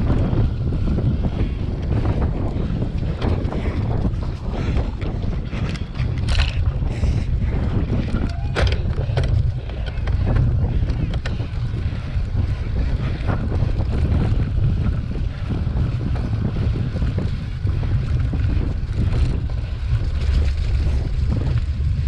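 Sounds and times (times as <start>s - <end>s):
bike rattles and knocks: 0.0s - 22.0s
bike rumbling over bumpy grass: 0.0s - 22.0s
wind buffeting microphone: 0.0s - 22.0s.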